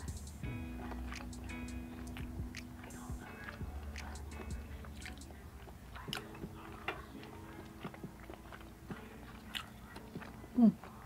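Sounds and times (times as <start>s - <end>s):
soft wet chewing: 0.0s - 11.0s.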